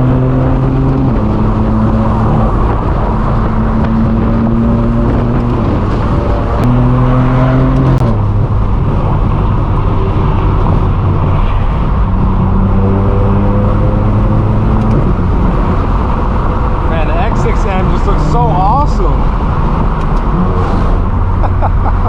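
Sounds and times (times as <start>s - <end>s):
car exhaust cruising: 0.0s - 22.0s.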